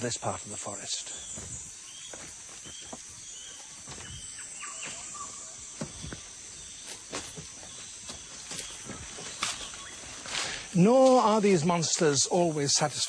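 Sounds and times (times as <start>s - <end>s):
bird chirps: 0.0s - 11.9s
insect drone: 0.0s - 13.0s.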